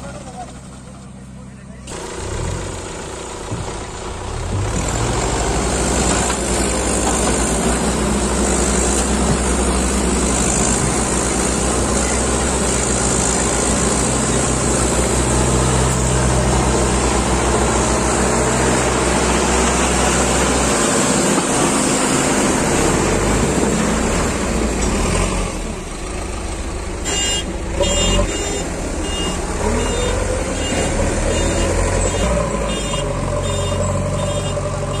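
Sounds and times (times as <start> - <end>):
backhoe loader engine: 0.0 - 35.0
tractor diesel engine under load: 0.0 - 35.0.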